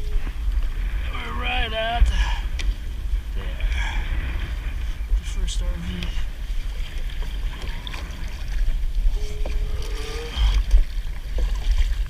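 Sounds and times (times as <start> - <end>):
water lapping around a kayak: 0.0 - 12.0
wind rumble on microphone: 0.0 - 12.0.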